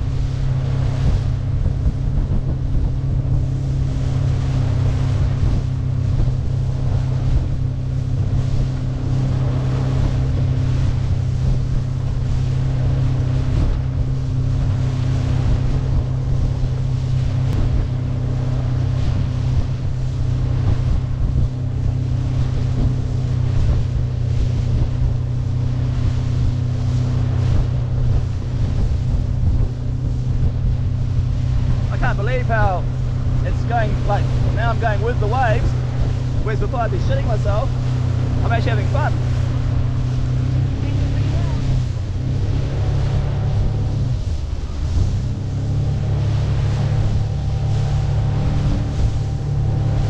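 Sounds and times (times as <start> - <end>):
outboard motor droning: 0.0 - 50.0
water rushing off hull: 0.0 - 50.0
wind on microphone: 0.0 - 50.0.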